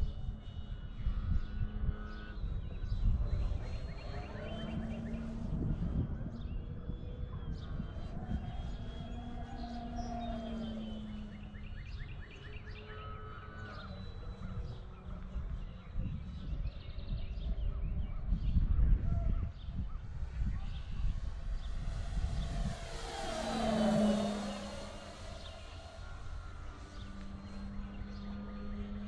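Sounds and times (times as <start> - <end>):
birds chirping: 0.0 - 17.6, 19.5 - 29.0
distant model plane motor droning: 0.0 - 29.0
wind rumble on microphone: 0.0 - 29.0.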